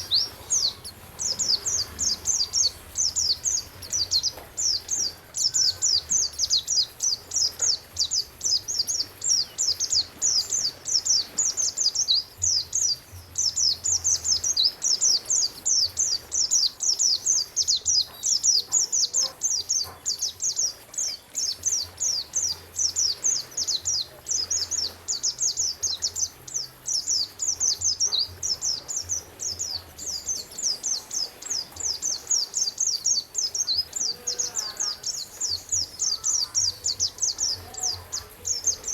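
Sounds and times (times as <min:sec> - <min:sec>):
songbird chirping: 0:00.0 - 0:38.9.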